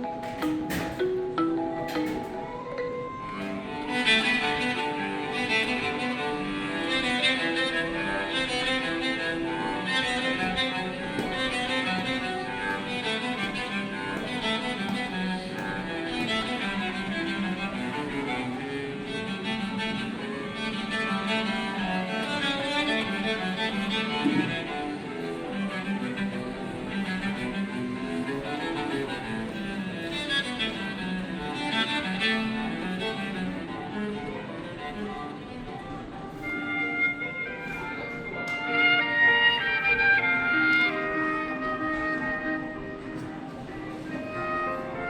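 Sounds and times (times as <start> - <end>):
classical strings ringtone: 0.0 - 45.0.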